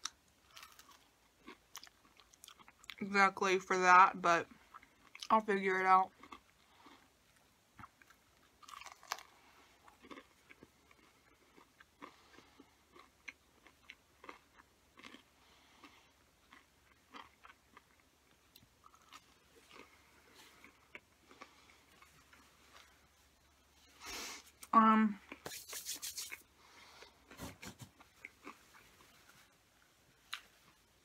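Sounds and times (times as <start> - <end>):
person chewing food softly: 0.0 - 3.1, 4.4 - 5.4, 6.0 - 31.0.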